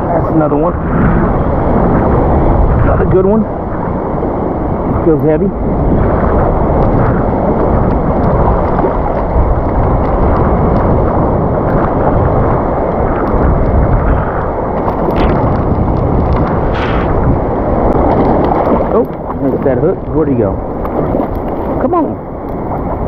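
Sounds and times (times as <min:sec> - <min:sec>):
surf water rushing: 0:00.0 - 0:23.0
wind rumble on microphone: 0:00.0 - 0:23.0.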